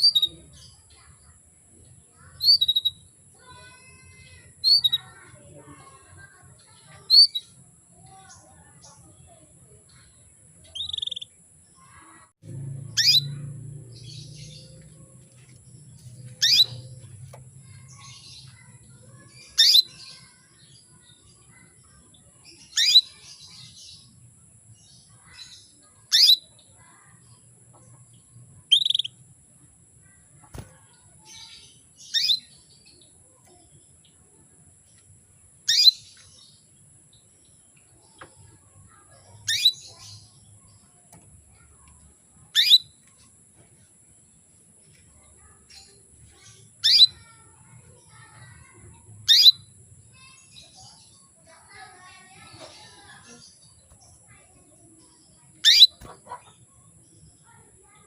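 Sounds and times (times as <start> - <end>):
canary chirps: 0.0 - 58.0.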